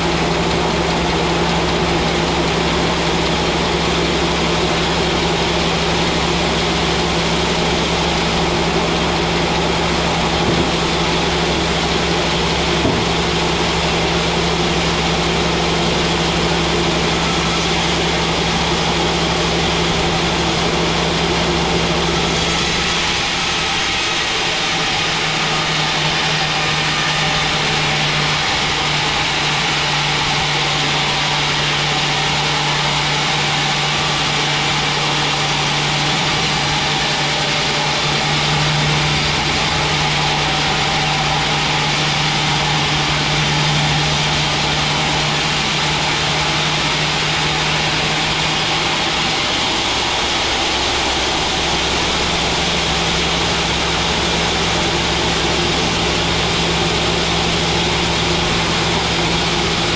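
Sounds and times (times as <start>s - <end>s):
motor hum: 0.0s - 59.9s.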